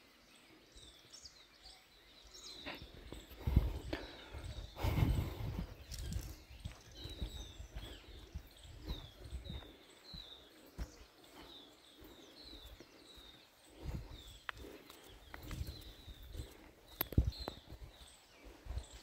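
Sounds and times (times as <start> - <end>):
bird chirping: 0.0 - 19.0
soft low thumps: 3.0 - 14.5, 15.2 - 19.0.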